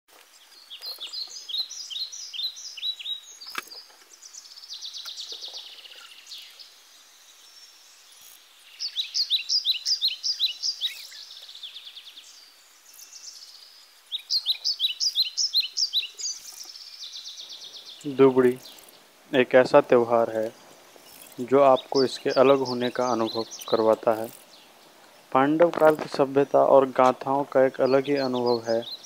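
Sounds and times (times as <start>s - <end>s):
songbird singing: 0.1s - 29.0s.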